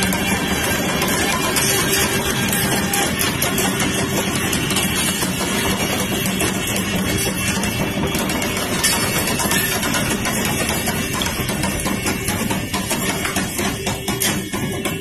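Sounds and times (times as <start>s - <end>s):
electric locomotive humming: 0.0s - 15.0s
wheels on rails: 0.0s - 15.0s.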